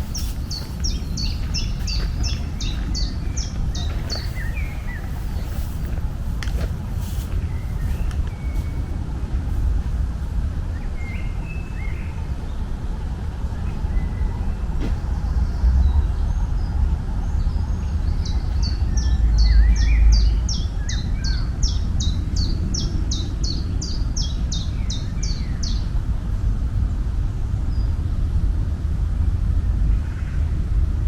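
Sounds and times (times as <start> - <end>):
songbird singing: 0.0 - 28.4
low rumble: 0.0 - 31.0.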